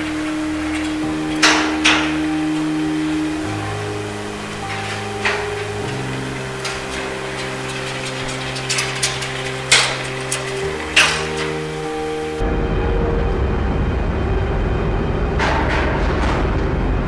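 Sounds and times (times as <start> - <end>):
music of sustained chords: 0.0 - 17.0.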